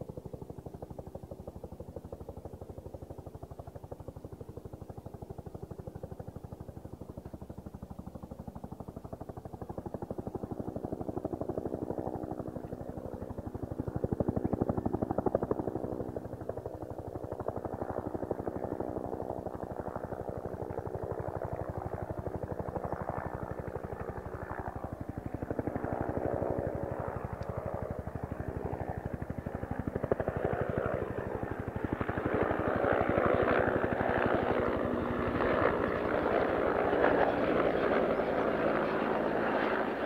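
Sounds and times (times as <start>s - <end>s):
helicopter rotor chopping: 0.1s - 40.0s.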